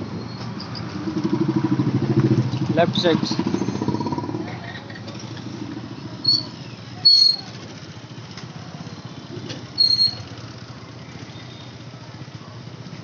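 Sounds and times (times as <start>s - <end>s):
motorcycle engine running: 0.6s - 13.0s.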